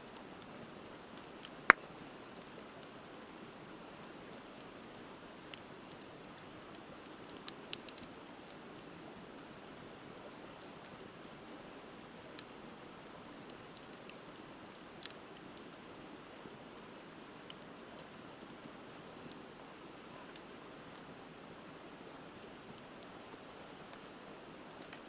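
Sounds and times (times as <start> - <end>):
wood fire crackling and popping: 1.0 - 25.0.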